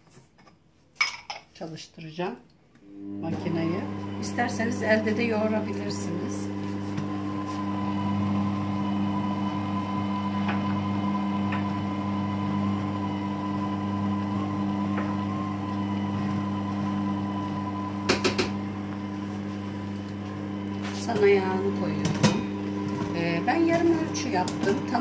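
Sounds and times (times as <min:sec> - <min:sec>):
stand mixer motor humming: 0:02.9 - 0:25.0.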